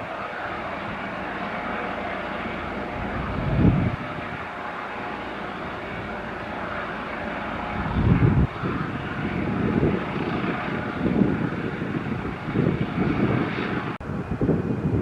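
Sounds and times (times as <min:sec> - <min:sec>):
airliner engines running: 0:00.0 - 0:15.0
low rumbling swell: 0:00.0 - 0:15.0.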